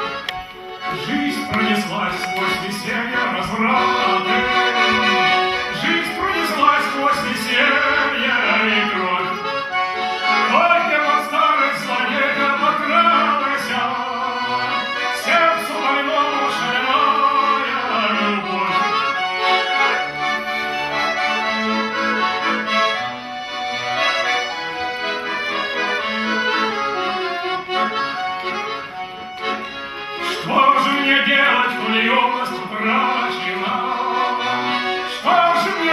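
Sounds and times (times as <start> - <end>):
accordion playing: 0.0 - 35.9.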